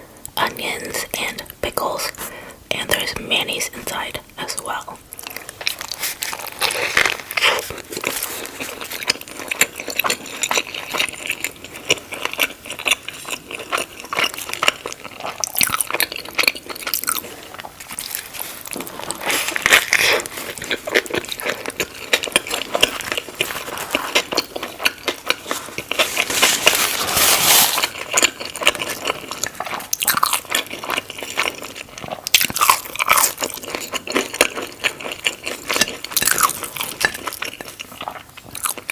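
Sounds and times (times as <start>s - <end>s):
crisp crunches of chewing: 5.1s - 38.9s.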